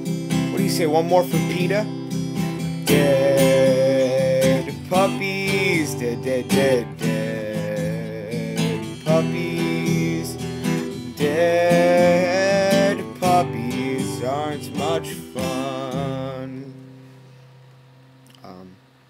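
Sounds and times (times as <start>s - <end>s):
man singing: 0.0s - 1.9s, 2.8s - 16.9s
acoustic guitar strumming: 0.0s - 19.0s.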